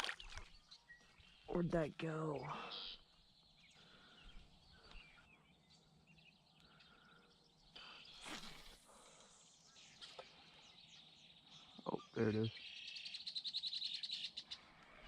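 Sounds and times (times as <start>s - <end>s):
faint outdoor ambience: 0.0s - 15.0s
small bird chirps: 2.7s - 15.0s.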